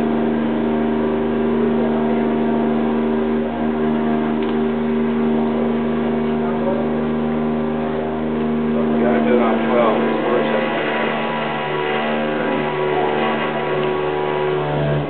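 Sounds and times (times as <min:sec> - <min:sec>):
droning hum of held tones: 0:00.0 - 0:15.0.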